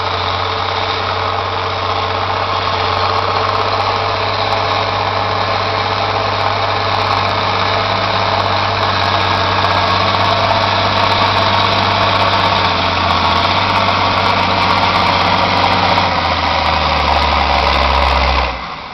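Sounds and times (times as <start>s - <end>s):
tractor diesel engine under load: 0.0s - 18.9s.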